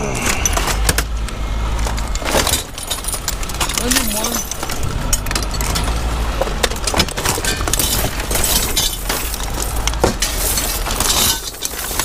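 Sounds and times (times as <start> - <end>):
low rumble: 0.0 - 10.0
scrap metal clanking: 1.8 - 12.0.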